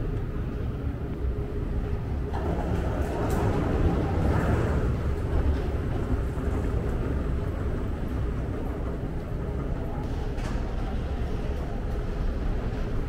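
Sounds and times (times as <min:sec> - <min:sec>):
airport terminal rumble: 0:00.0 - 0:13.0.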